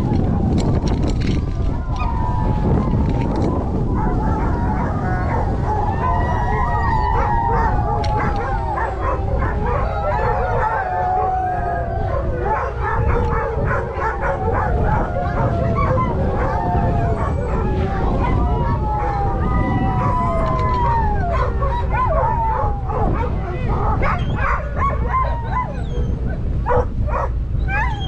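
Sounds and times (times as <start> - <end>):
dogs howling and yipping: 0.0 - 28.0
wind rumbling on microphone: 0.0 - 28.0.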